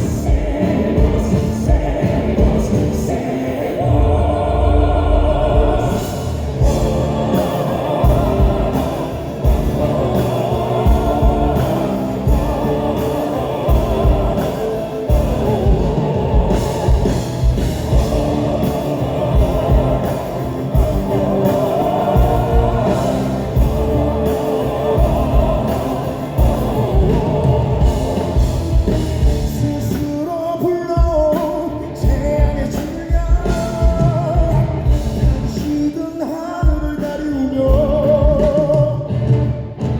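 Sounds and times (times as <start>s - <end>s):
live rock band: 0.0s - 3.8s, 5.6s - 39.9s
male vocal group singing: 0.0s - 39.6s.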